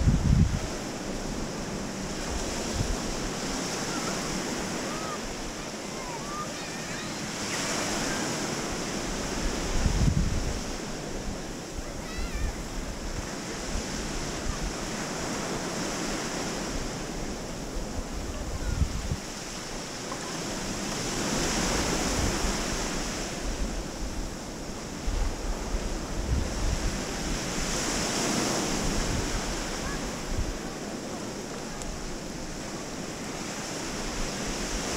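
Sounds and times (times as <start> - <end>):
sea waves washing onto beach: 0.0 - 34.9
wind buffeting microphone: 0.0 - 34.9.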